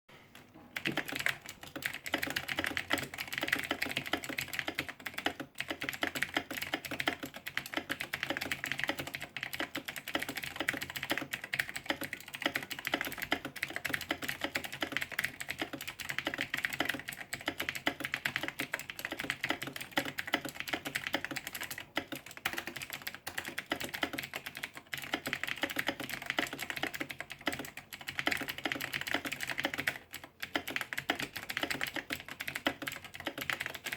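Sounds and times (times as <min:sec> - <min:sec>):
rapid keyboard typing: 0:00.4 - 0:33.9.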